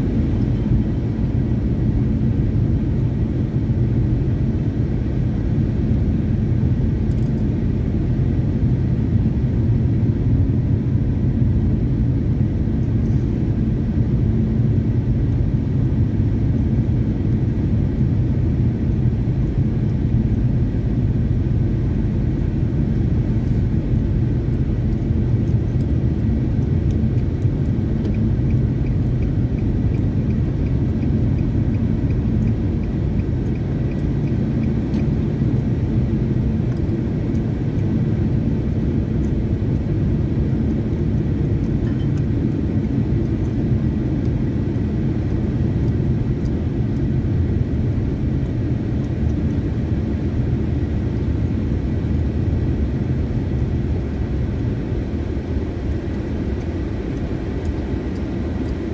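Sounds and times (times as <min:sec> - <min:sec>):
car engine and tyres rumbling: 0:00.0 - 0:58.9.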